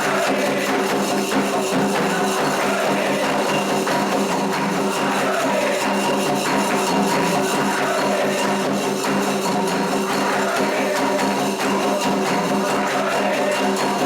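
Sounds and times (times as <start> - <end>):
ritual percussion rhythm: 0.0 - 14.0.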